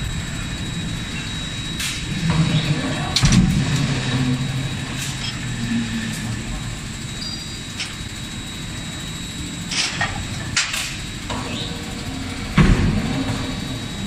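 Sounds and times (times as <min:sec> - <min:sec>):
machine hum with high whine: 0:00.0 - 0:14.0.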